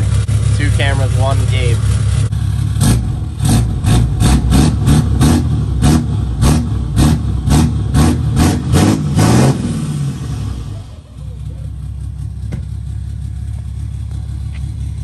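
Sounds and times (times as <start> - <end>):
diesel engine revving: 0.0 - 15.0.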